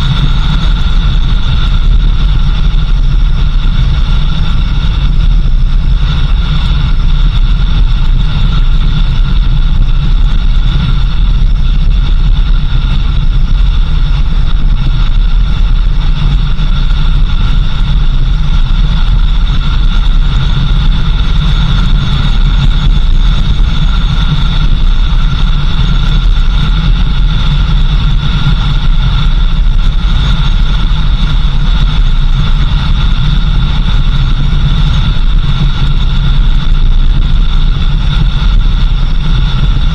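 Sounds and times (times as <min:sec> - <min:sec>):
car engine and road noise: 0:00.0 - 0:39.9
faint high whine: 0:00.0 - 0:39.9.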